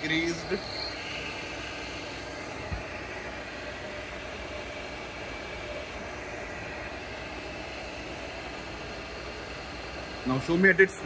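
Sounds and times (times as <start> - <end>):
milling machine running: 0.0 - 11.0.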